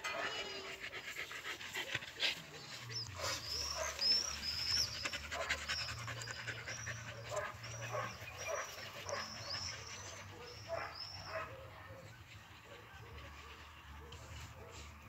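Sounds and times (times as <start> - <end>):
puppy panting: 0.0 - 15.0.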